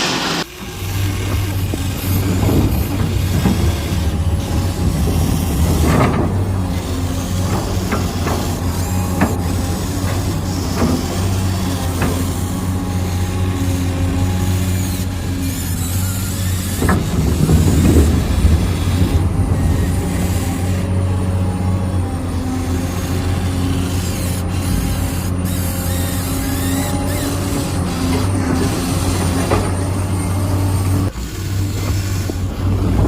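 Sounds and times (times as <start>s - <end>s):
toy electric motors humming: 0.6s - 20.8s, 22.0s - 32.6s.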